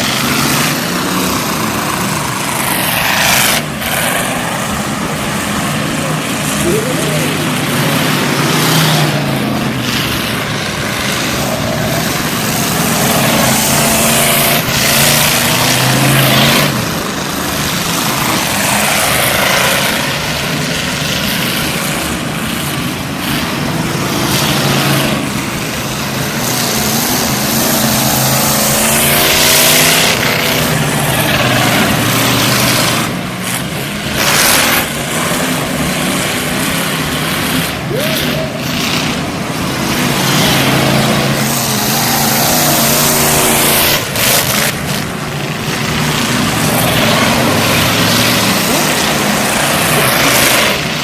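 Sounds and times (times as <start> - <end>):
race car engines revving: 0.0 - 51.0.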